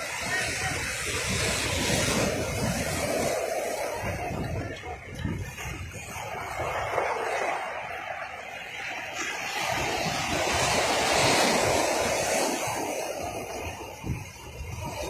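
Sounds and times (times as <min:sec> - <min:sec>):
wave breaking on beach: 0:00.0 - 0:15.0.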